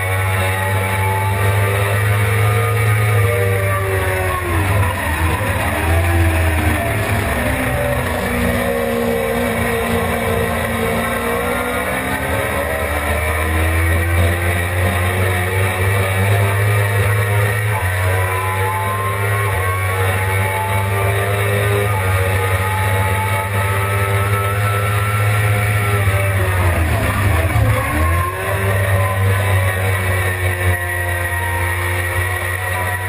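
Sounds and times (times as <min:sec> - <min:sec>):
motorcycle engine at speed: 0:00.0 - 0:33.0.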